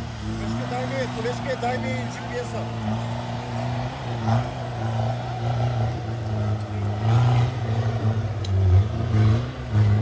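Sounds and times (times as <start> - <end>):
off-road vehicle engine running: 0.0 - 10.0.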